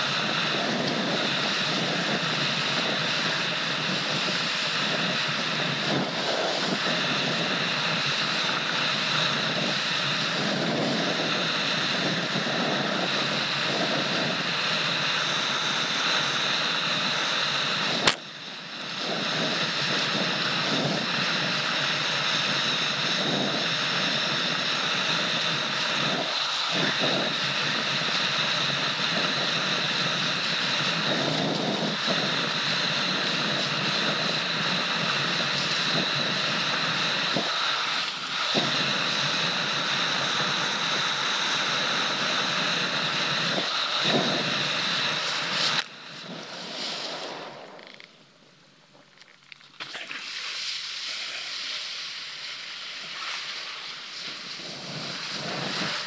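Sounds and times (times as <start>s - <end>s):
water spray: 0.0s - 48.0s, 49.7s - 56.0s
rushing wind: 0.0s - 49.2s, 50.0s - 56.0s.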